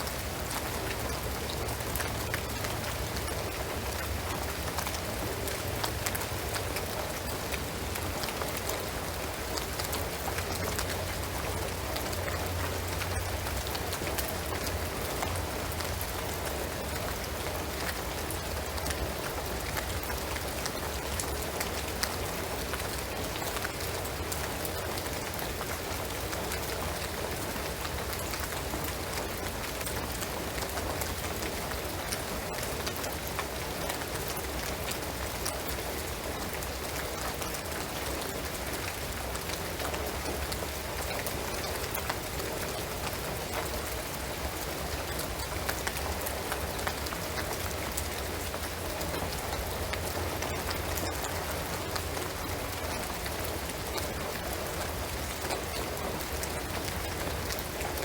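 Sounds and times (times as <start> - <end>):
rain pattering on roof: 0.0 - 58.0.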